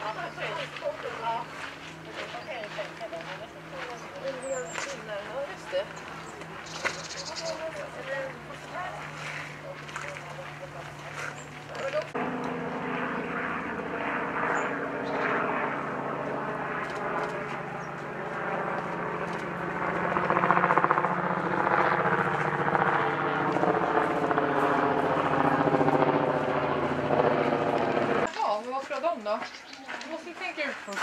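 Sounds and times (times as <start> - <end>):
large engine droning: 0.0 - 28.4.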